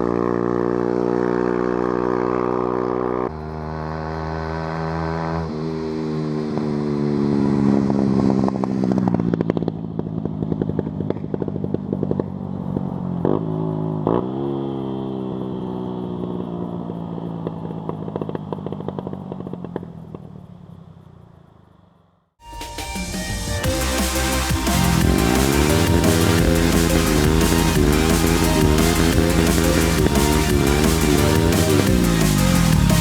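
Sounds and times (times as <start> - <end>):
motorcycle engine revving: 0.0 - 21.4, 23.0 - 33.0.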